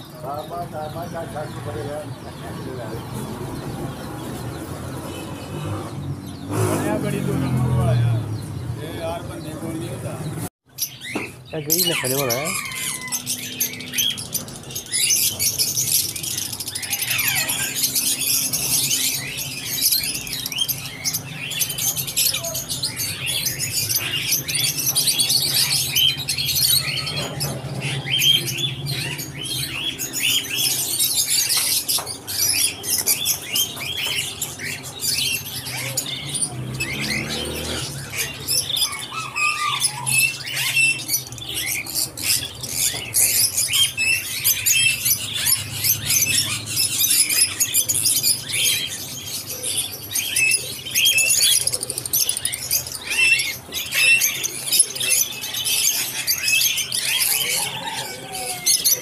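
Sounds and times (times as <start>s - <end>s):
caged birds chirping: 0.0s - 59.0s.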